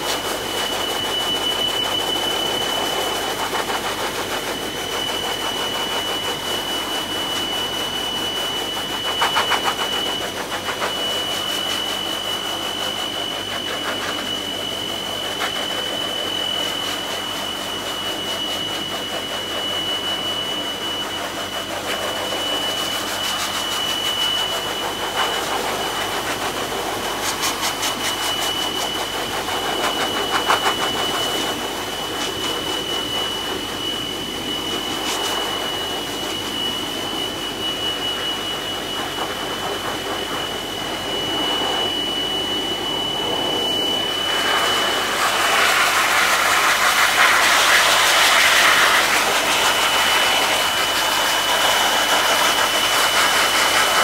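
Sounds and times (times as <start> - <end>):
pet dryer blowing air: 0.0 - 54.0.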